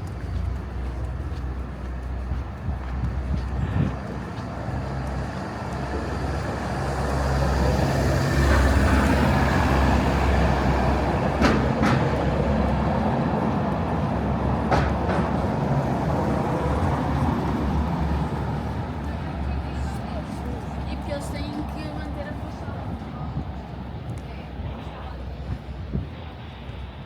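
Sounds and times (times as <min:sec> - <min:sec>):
heavy vehicle passing: 0:00.0 - 0:27.0
street traffic: 0:00.0 - 0:27.0.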